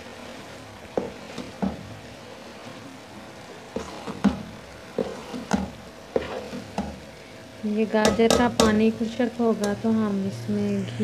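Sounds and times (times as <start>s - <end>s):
pan cooking hiss: 0.0s - 11.0s.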